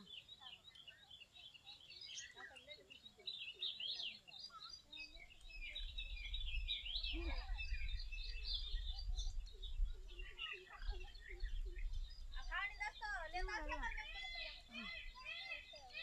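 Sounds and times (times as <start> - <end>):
birds chirping chorus: 0.0 - 16.0.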